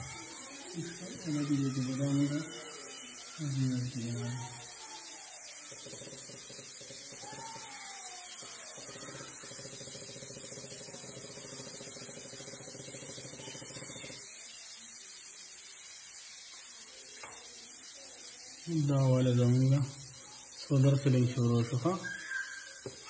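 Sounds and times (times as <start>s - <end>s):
inverter electrical buzz: 0.0s - 14.4s, 16.5s - 23.0s
constant hiss: 0.0s - 23.0s.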